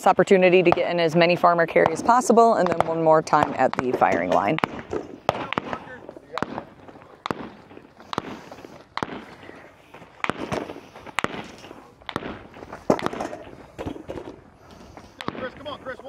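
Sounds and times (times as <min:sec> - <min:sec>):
gunshots: 0:01.7 - 0:14.4, 0:15.1 - 0:16.0.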